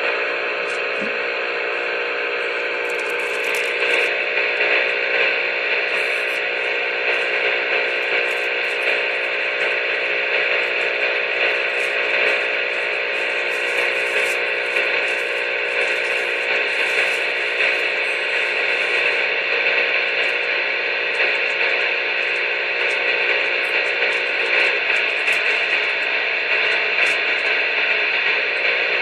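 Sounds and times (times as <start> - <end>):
electronic hiss and hum: 0.0 - 29.0
faint crackles: 0.0 - 29.0.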